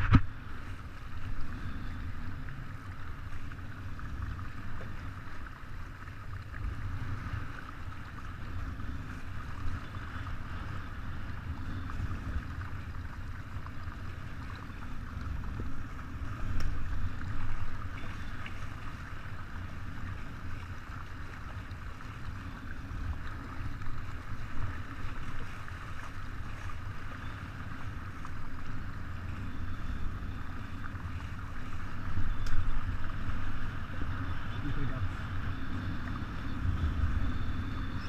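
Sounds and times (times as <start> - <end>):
water rushing along hull: 0.0 - 38.0
wind on microphone: 0.0 - 38.0.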